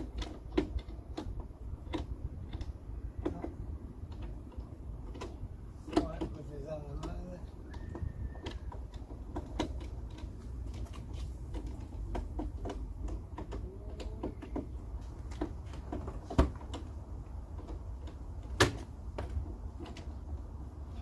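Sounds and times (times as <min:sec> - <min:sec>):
light clicks and knocks: 0:00.0 - 0:21.0.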